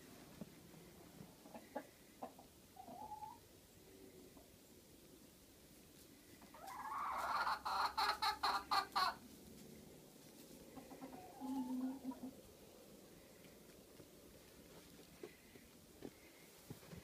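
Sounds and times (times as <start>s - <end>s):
chickens clucking: 1.2s - 4.7s, 6.3s - 17.0s.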